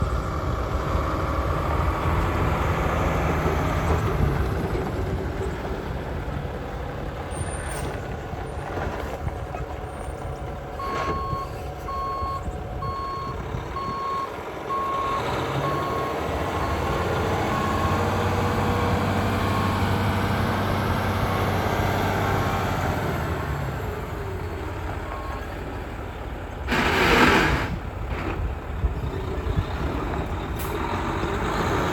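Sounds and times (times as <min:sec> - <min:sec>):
diesel truck engine revving: 0:00.0 - 0:07.4, 0:10.8 - 0:31.9.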